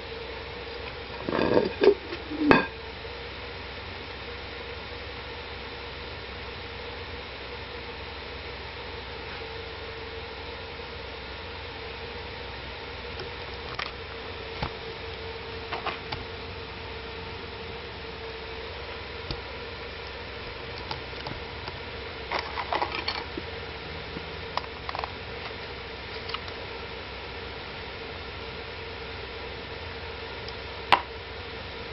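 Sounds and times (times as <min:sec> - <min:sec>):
faint hum: 0:00.0 - 0:31.9.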